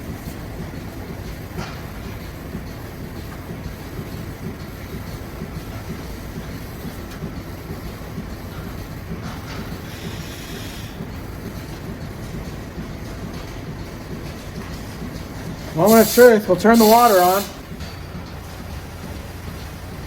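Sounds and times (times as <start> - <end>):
low machinery rumble: 0.0 - 20.0.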